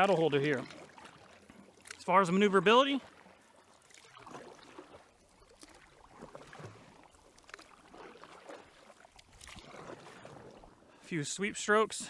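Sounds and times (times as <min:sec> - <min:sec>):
paddle splashes and water drips: 0:00.0 - 0:12.0.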